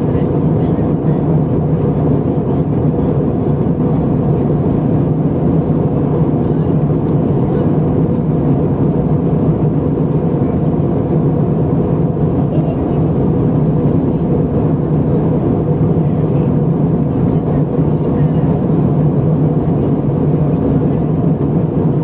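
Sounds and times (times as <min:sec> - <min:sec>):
airliner cabin engine drone: 0:00.0 - 0:22.0.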